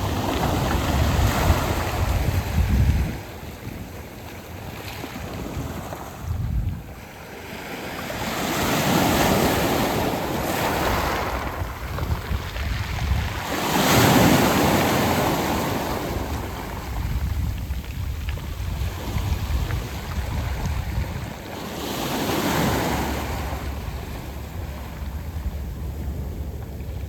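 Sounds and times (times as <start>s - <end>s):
waves washing over pebbles: 0.0s - 27.0s
wind rumble on microphone: 0.0s - 27.0s.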